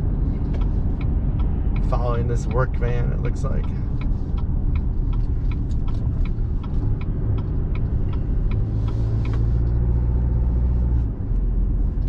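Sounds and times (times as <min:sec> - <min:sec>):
truck engine and road rumble: 0:00.0 - 0:12.0
turn signal ticking: 0:00.0 - 0:12.0.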